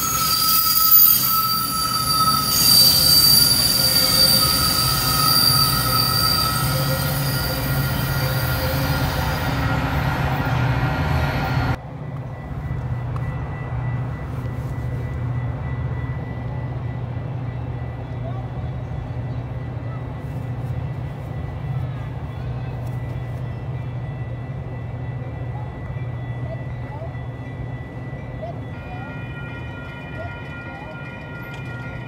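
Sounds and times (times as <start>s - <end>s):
train rumble: 0.0s - 32.0s
train wheels squealing: 0.0s - 32.0s.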